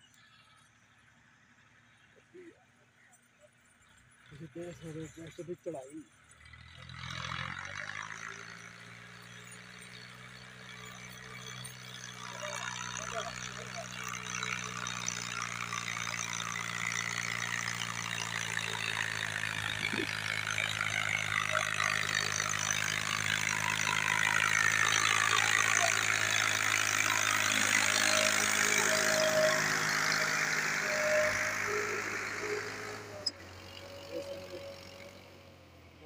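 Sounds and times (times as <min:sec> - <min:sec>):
tractor diesel engine under load: 0:01.4 - 0:36.0.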